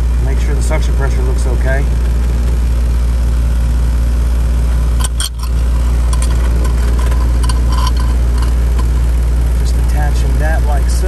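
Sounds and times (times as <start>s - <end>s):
heat pump humming: 0.0s - 11.0s.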